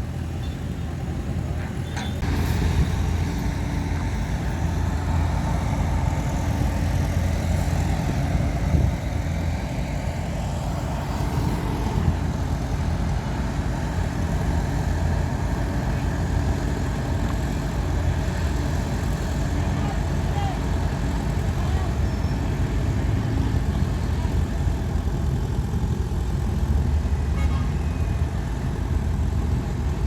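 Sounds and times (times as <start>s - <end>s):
heavy diesel engine droning: 0.0s - 30.0s.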